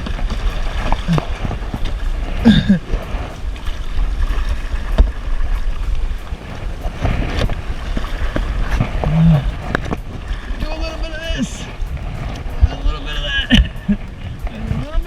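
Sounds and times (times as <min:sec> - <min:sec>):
water noise around kayak: 0:00.0 - 0:15.0
wind buffeting microphone: 0:00.0 - 0:15.0.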